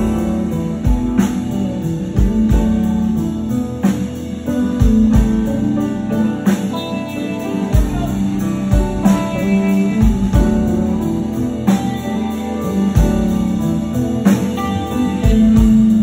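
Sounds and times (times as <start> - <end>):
bass and drums: 0.0 - 16.0.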